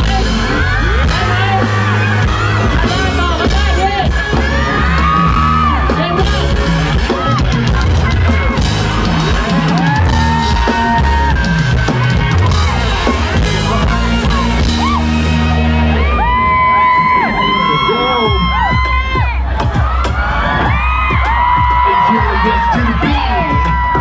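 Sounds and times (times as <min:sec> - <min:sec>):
fans yelling: 0:00.0 - 0:24.0
live pop-rock band playing: 0:00.0 - 0:24.0.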